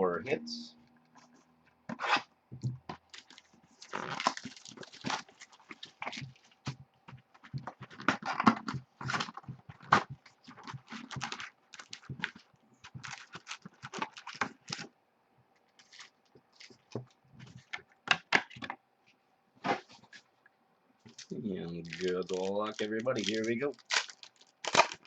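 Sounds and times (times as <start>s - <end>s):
faint steady hum: 0.0s - 25.0s
clicks and crinkly rustles: 2.9s - 14.9s, 15.6s - 20.3s, 21.0s - 25.0s.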